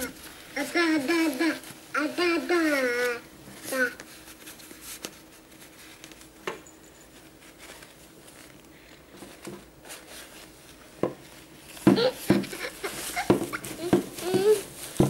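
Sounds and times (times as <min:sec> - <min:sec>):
diaper rustling and tapping: 0:00.0 - 0:06.3, 0:07.4 - 0:15.0.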